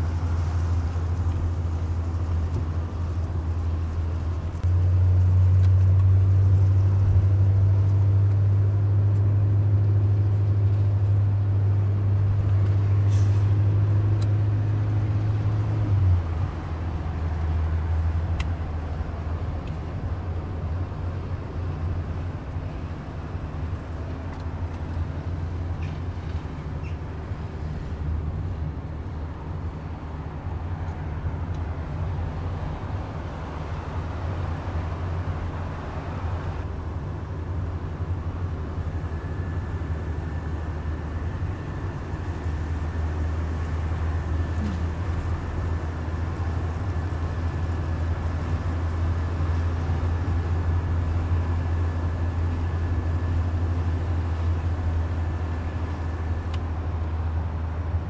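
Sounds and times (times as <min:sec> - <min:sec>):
car engine drone: 0:00.0 - 0:58.0
tyre and road noise: 0:00.0 - 0:58.0.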